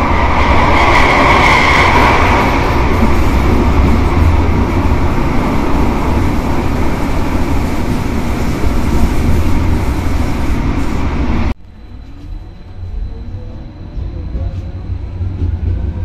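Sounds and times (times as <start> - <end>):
train car running noise: 0.0 - 16.0
train wheels rumbling on rails: 0.0 - 16.0.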